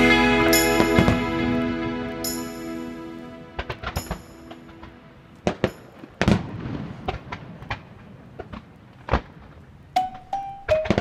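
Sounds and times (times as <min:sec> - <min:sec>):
fireworks bursting: 0:00.0 - 0:09.6.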